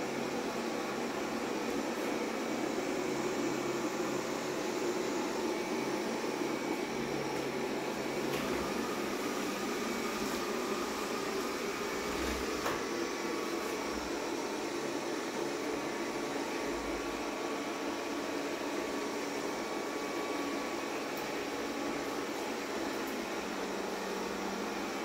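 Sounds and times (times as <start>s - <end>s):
robot vacuum fan whirring: 0.0s - 25.0s.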